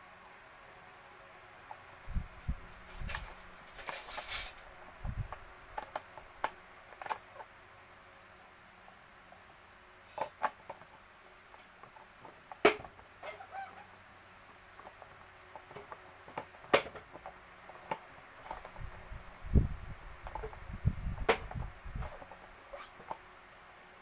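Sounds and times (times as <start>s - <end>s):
high-pitched insect trill: 1.7s - 24.0s.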